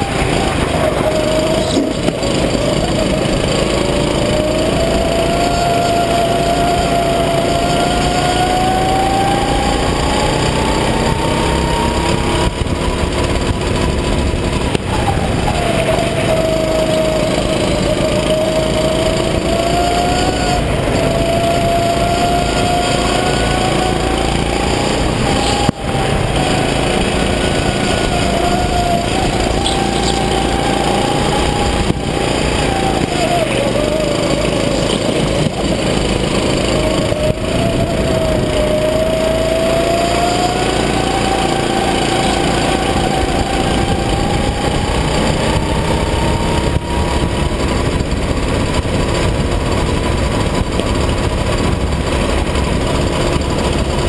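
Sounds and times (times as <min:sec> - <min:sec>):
go-kart engine running hard: 0:00.0 - 0:54.0
wind and track noise: 0:00.0 - 0:54.0.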